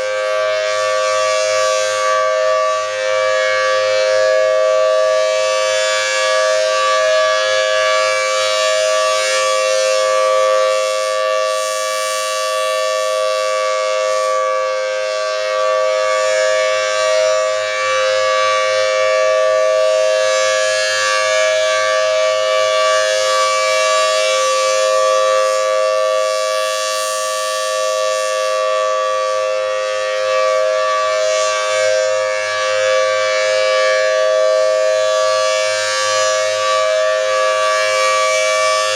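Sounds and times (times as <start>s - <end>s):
warning siren steady two-note chord: 0.0s - 38.9s.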